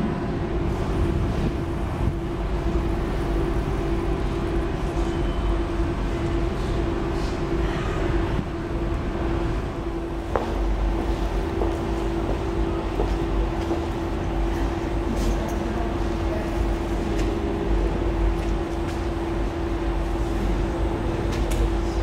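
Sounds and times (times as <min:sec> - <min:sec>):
constant hum: 0:00.0 - 0:22.0
train rumbling in tunnel: 0:00.0 - 0:22.0.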